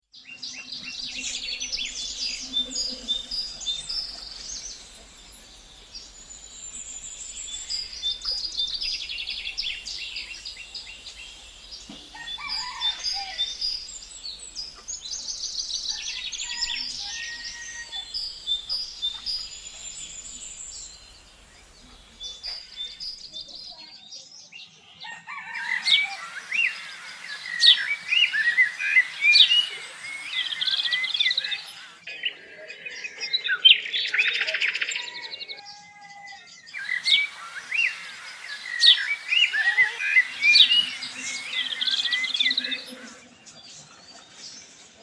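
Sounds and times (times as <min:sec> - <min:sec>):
birds chirping and chattering: 0:00.3 - 0:23.9, 0:25.5 - 0:35.7, 0:36.7 - 0:44.9.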